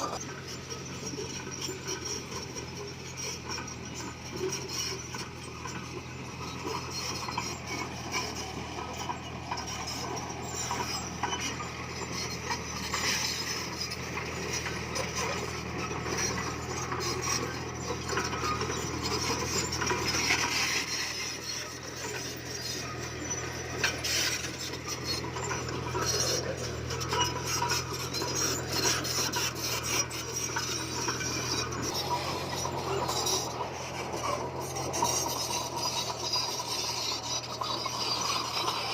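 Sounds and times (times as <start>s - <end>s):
bulldozer diesel engine running: 0.0s - 38.9s
tracks grinding and scraping stone: 0.0s - 38.9s.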